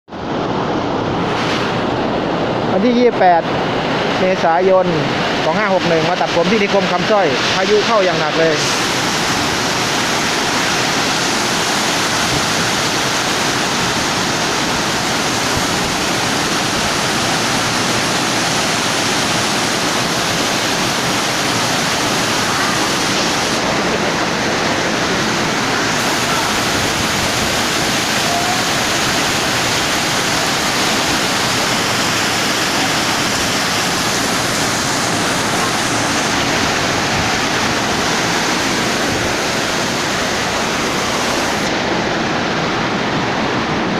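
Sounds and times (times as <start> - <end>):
rain pouring down hard: 0.1 - 43.9
wind: 0.1 - 43.9.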